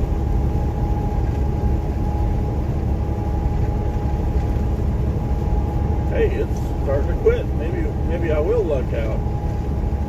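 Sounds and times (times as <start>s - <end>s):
diesel truck engine running: 0.0s - 10.0s
faint steady whine: 0.0s - 10.0s
tyres rumbling on wet road: 0.0s - 10.0s.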